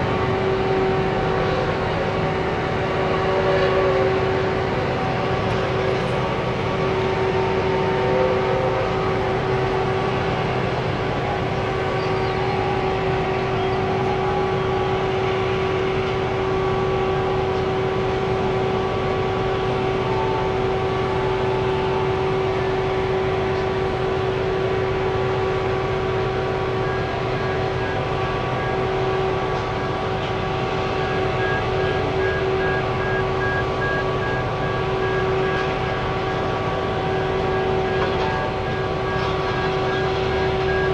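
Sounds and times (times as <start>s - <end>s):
heavy diesel machinery running: 0.0s - 40.9s
steady machine whine: 0.0s - 40.9s.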